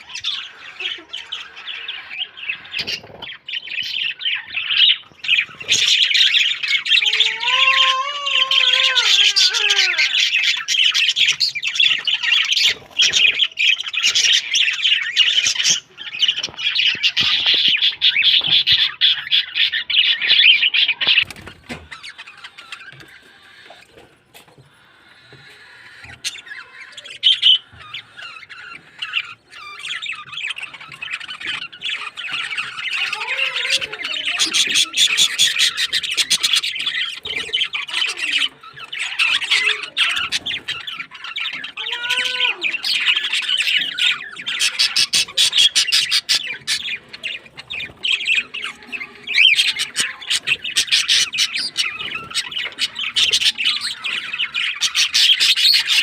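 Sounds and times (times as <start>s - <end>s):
lower bird calls: 0.0s - 56.0s
small birds chirping: 0.0s - 56.0s.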